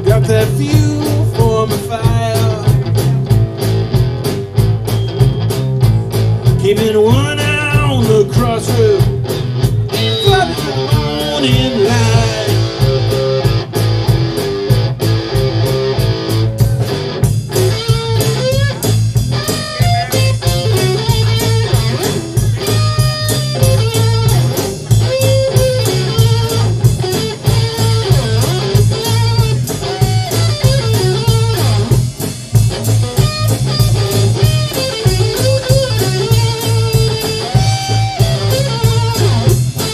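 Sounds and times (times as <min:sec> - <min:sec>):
bass guitar line: 0:00.0 - 0:39.9
drum kit steady beat: 0:00.0 - 0:39.9
electric guitar lead with bent notes: 0:00.0 - 0:39.9.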